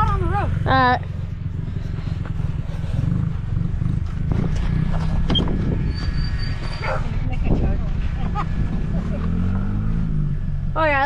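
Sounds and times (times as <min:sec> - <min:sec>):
engine idling: 0:00.0 - 0:09.4.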